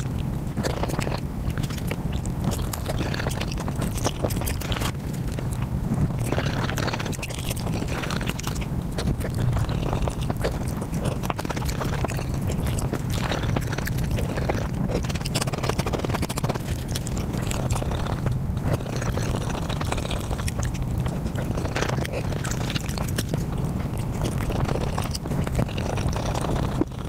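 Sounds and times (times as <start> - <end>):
rapid chewing and biting clicks: 0.0 - 27.0
steady low hum: 0.0 - 27.0.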